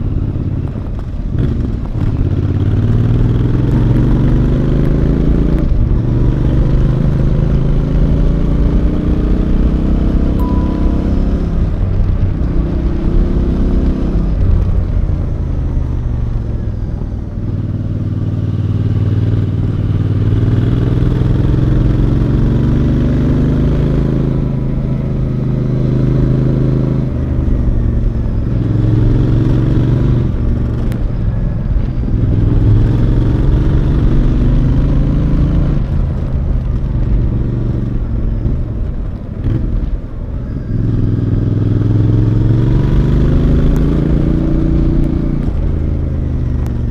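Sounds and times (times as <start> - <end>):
motorcycle engine revving while riding: 0.0 - 46.9.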